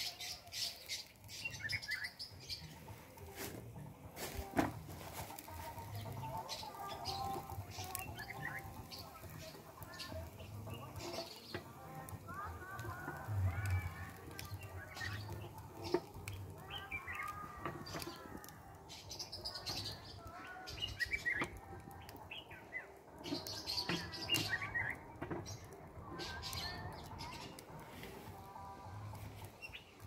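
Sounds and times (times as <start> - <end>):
small birds chirping: 0.0 - 3.4, 5.0 - 30.0.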